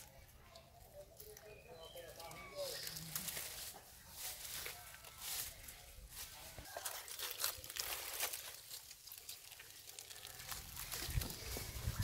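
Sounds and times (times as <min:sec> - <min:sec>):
dry leaves rustling and crackling: 0:00.8 - 0:12.0.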